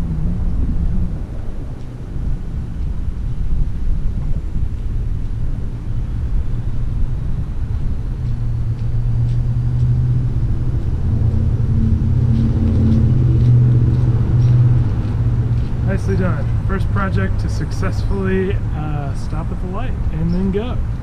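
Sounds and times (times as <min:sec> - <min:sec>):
low motor hum: 0:00.0 - 0:21.0
steady low rumble: 0:00.0 - 0:21.0
faint footsteps on asphalt: 0:00.5 - 0:11.3, 0:12.2 - 0:18.6.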